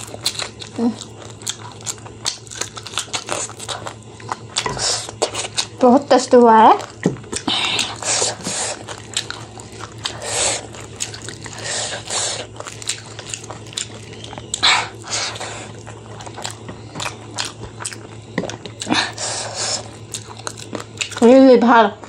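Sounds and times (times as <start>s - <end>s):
wet chewing and lip smacking: 0.0s - 5.8s, 6.7s - 21.3s
steady low hum: 0.0s - 22.0s.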